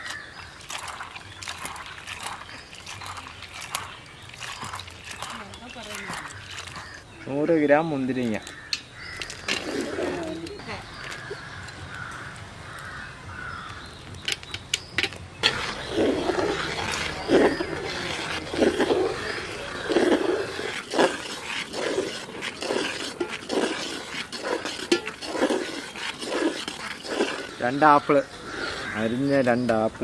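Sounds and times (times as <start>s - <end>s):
ladle scraping and sloshing in pot: 0.0s - 7.2s, 8.2s - 11.6s, 14.3s - 29.8s.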